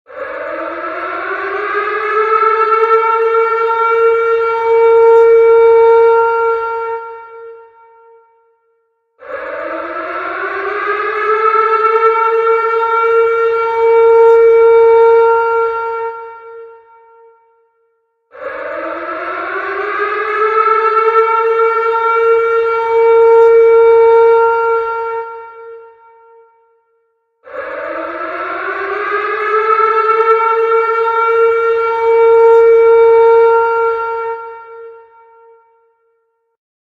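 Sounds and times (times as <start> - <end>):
tornado warning siren wailing: 0.1 - 8.4, 9.2 - 17.5, 18.3 - 26.6, 27.4 - 36.0.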